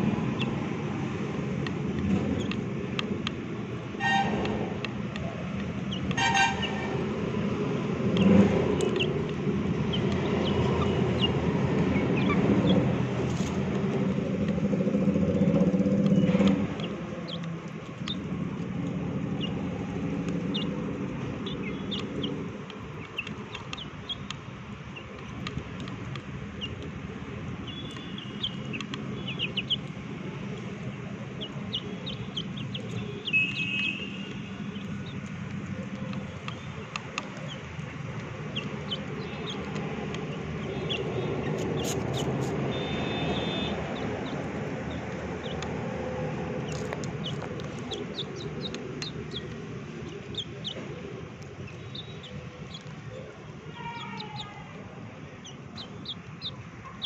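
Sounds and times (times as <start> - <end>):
chickens chirping and clucking: 0.0 - 3.3, 4.0 - 57.0
chickens pecking in steel bowl: 0.1 - 54.5.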